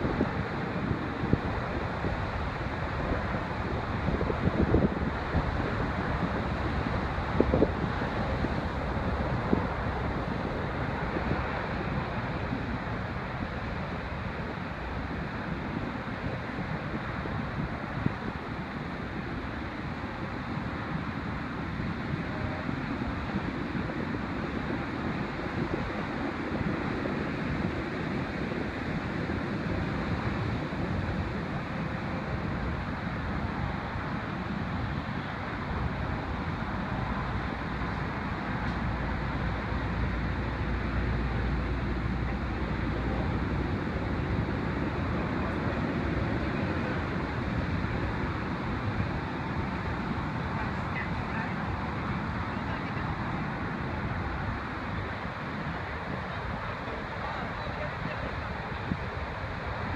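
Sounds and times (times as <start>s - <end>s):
deep rumble of waves: 0.0s - 59.9s.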